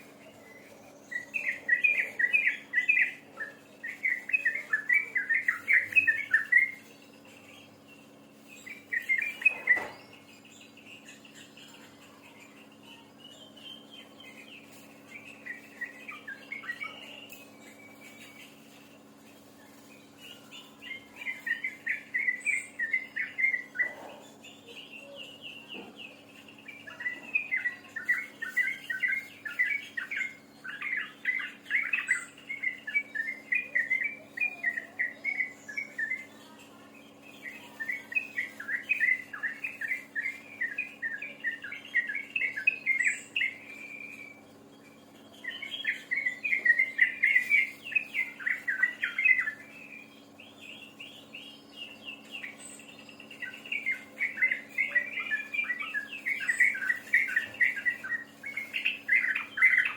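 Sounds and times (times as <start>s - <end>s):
faint steady hum: 0.0s - 59.9s
songbird chattering song: 0.0s - 59.9s.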